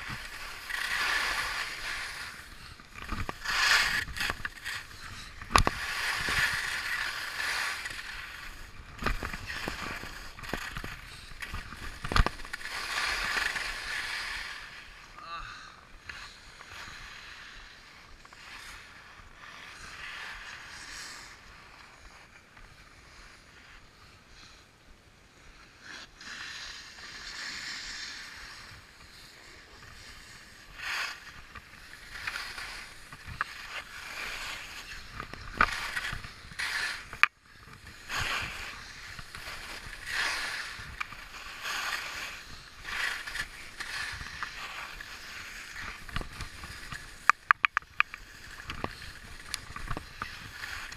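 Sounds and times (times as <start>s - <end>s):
skis scraping over snow: 0.0s - 15.2s, 15.9s - 24.7s, 25.3s - 50.9s.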